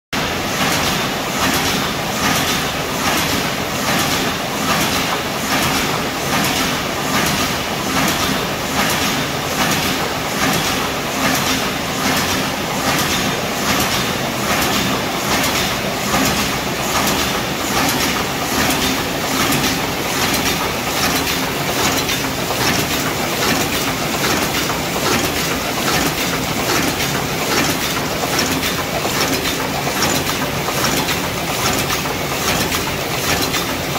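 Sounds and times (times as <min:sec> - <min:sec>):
machine rhythmic mechanical clatter: 0:00.2 - 0:33.9.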